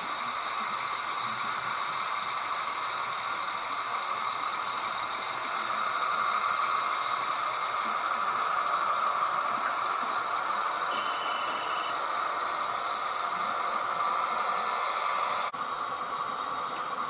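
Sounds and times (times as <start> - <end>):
model train motors whirring: 0.0 - 17.0.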